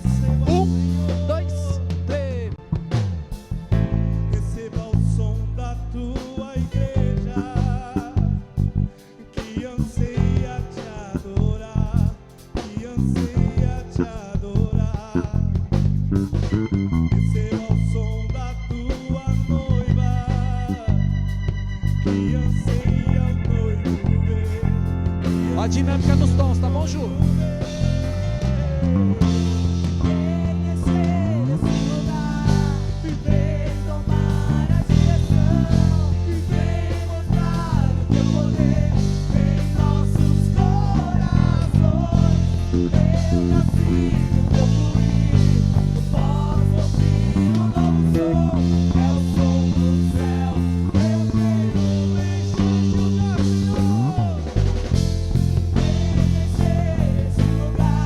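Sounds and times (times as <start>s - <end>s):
electric bass sliding notes: 0.0s - 58.0s.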